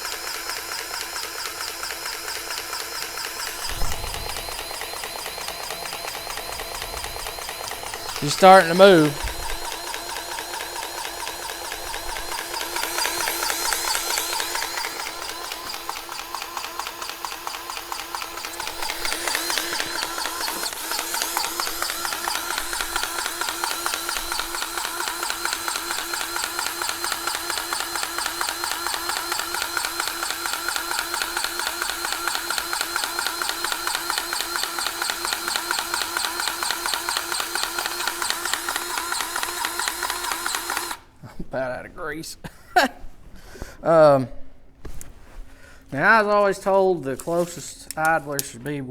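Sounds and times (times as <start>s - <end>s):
grease gun pumping: 0.0s - 41.0s.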